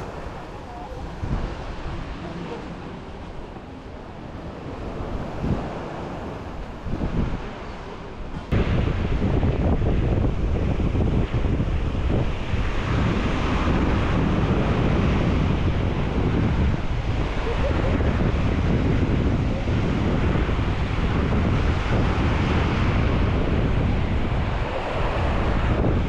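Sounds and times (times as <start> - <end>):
surf washing up shore: 0.0 - 26.0
wind buffeting microphone: 0.0 - 26.0.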